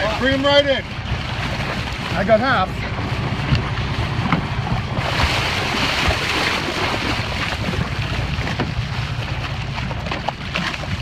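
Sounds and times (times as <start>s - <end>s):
water splashing against boat: 0.0s - 11.0s
wind buffeting microphone: 0.0s - 11.0s
low rumble: 0.2s - 11.0s.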